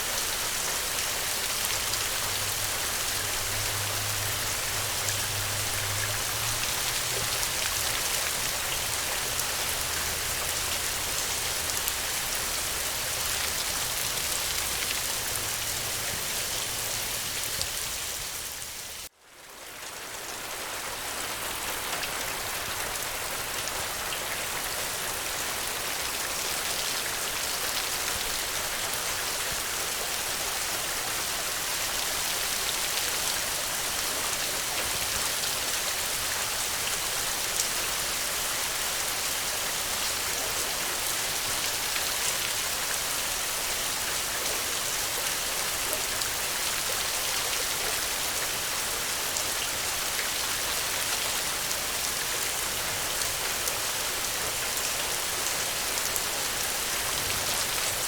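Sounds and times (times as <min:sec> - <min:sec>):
rain falling on ground: 0:00.0 - 0:58.0.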